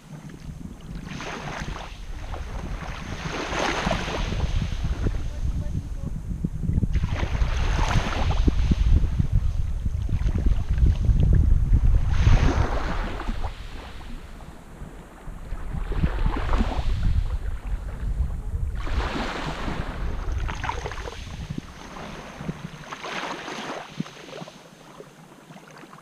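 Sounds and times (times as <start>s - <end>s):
wind rumble on microphone: 0.0s - 25.0s
small waves washing on shore: 0.0s - 26.0s.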